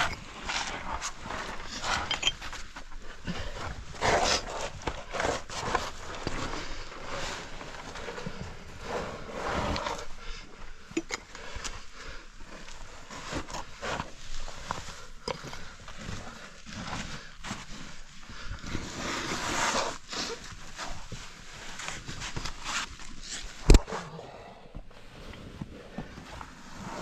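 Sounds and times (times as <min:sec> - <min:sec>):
scraping and shuffling on rock: 0:00.0 - 0:27.0.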